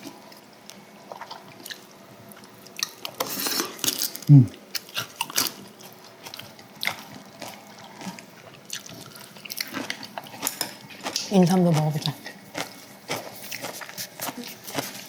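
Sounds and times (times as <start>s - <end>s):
wet chewing: 1.1s - 15.0s.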